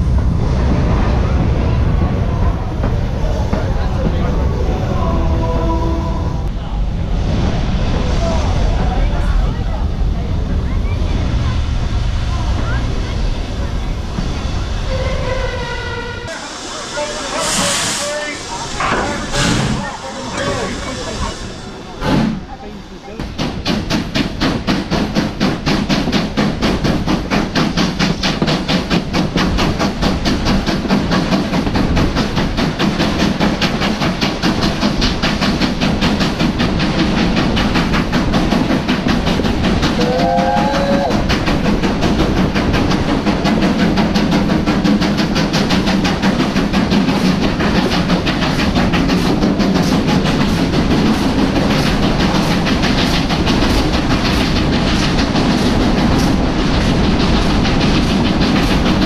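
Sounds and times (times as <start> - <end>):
steam train running: 0.0 - 59.0.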